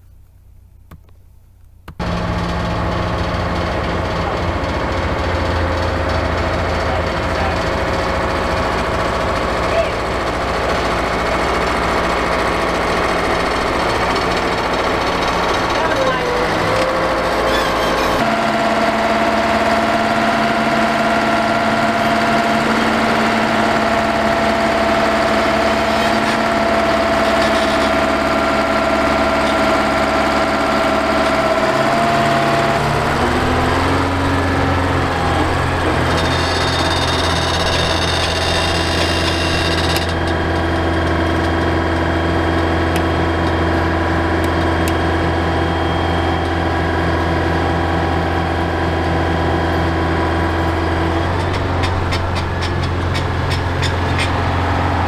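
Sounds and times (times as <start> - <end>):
excavator diesel engine running: 1.9 - 55.0.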